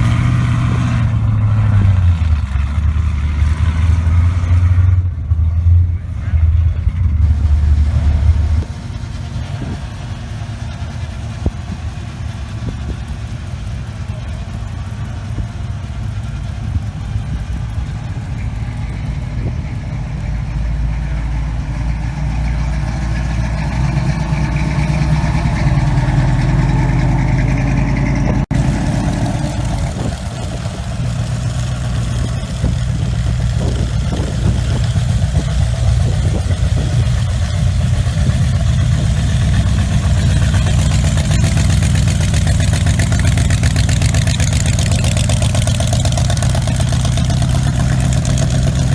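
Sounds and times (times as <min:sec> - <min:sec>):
car engines idling and revving: 0:00.0 - 0:48.9.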